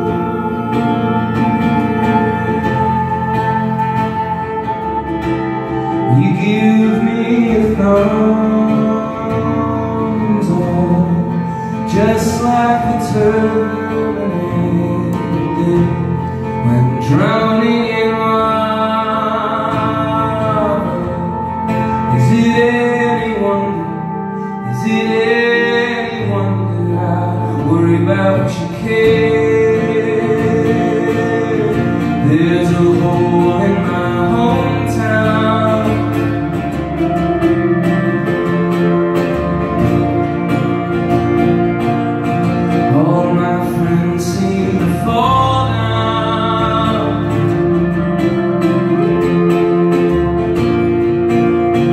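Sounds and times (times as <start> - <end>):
acoustic guitar: 0.0 - 51.9
electric guitar: 0.0 - 51.9
lead singer singing: 0.0 - 51.9.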